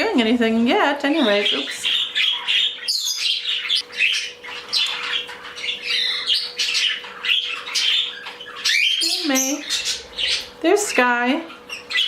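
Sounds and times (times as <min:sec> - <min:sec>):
budgies chirping and warbling: 0:00.9 - 0:12.0.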